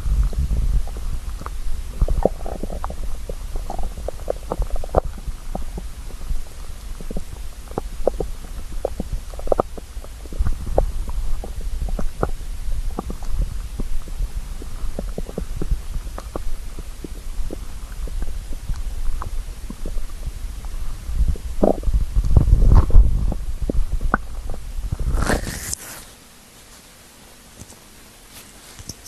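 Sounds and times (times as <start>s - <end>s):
stomach growling: 0.0s - 25.8s.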